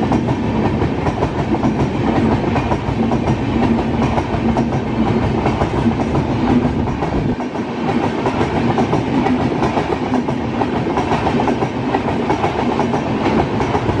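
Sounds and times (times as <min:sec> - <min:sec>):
train rolling roar: 0:00.0 - 0:14.0.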